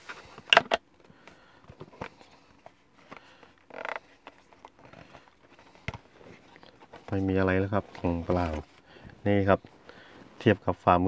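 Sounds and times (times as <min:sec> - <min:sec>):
cardboard rustle: 0:01.7 - 0:10.6.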